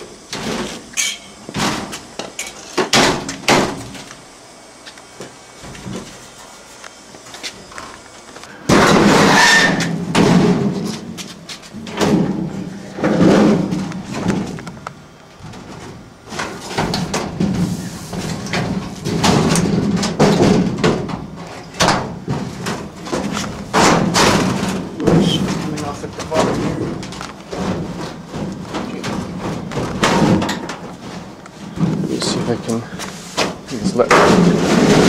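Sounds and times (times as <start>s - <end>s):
sheet metal ducts clattering: 0.0s - 4.1s, 8.6s - 14.8s, 15.4s - 35.0s.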